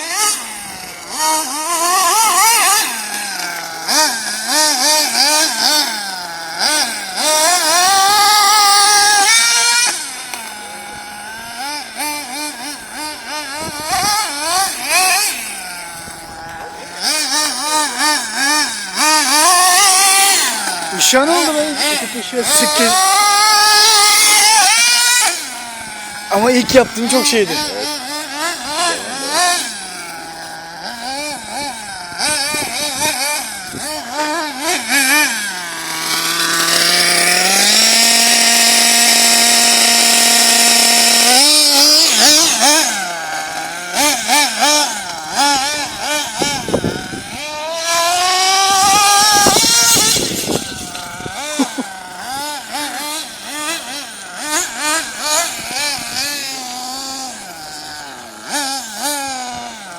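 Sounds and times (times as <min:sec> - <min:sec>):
small nitro engine revving: 0:00.0 - 0:59.9.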